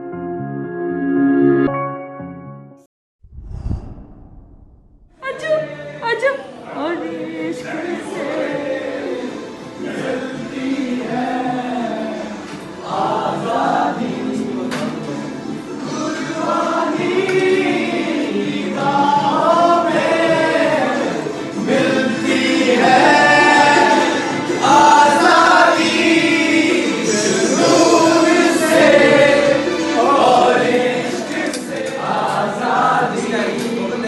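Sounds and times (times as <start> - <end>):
soft pop song with singing: 5.2 - 34.0.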